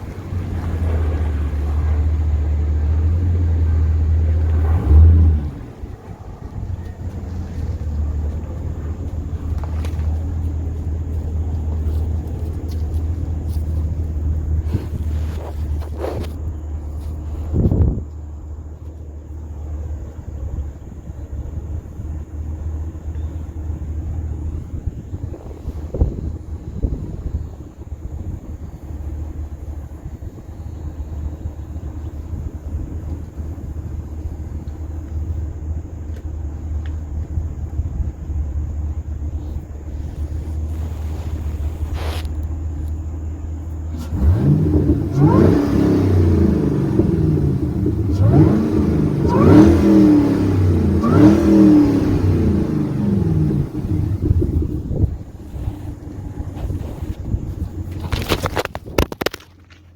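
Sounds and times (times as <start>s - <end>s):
car engine running with deep exhaust: 0.0s - 59.9s.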